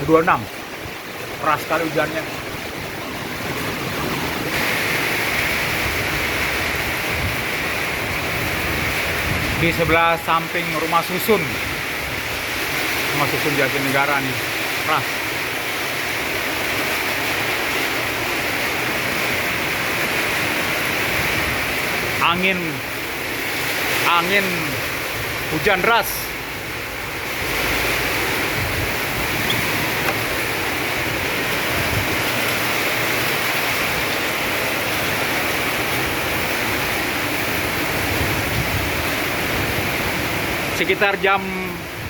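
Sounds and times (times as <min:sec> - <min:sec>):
heavy rain hissing: 0:00.0 - 0:42.0.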